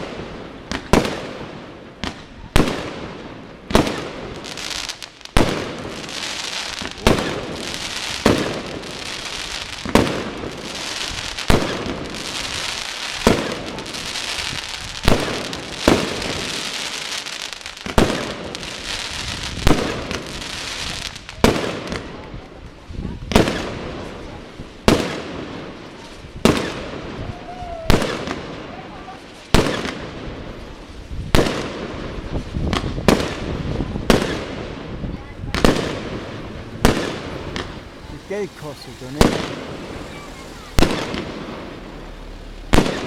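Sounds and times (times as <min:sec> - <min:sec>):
fireworks bangs: 0:00.0 - 0:43.0
fireworks crackling and fizzing: 0:00.0 - 0:43.0.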